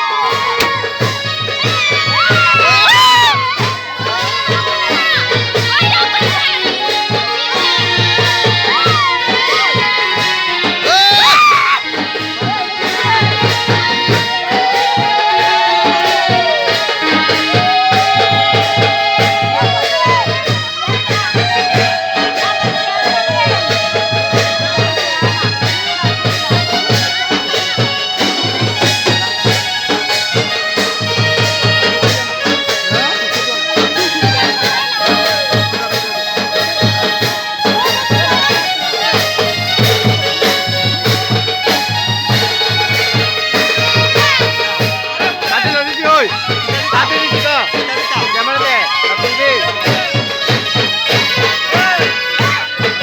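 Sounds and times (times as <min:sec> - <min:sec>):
accordion-like chords over low beat: 0:00.3 - 0:02.3, 0:11.8 - 0:53.0.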